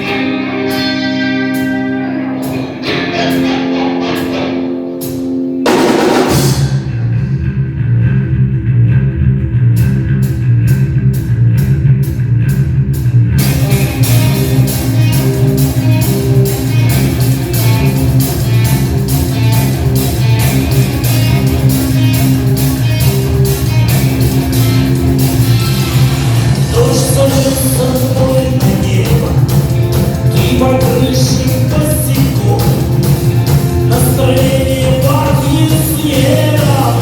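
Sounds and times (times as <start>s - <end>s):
rock band playing: 0.0s - 7.6s, 9.6s - 37.0s.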